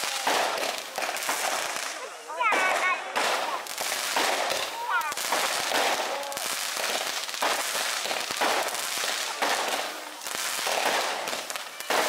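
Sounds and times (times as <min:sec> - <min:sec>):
fireworks hissing and popping: 0:00.0 - 0:12.0.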